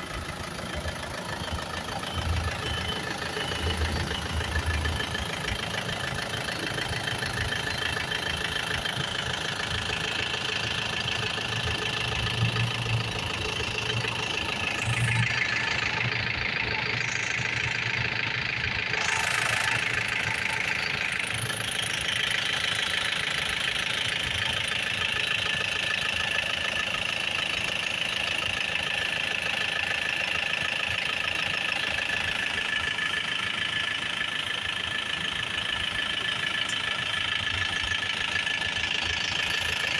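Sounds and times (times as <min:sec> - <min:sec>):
diesel engine idling: 0:00.0 - 0:39.9
thin steady whine: 0:00.0 - 0:39.9.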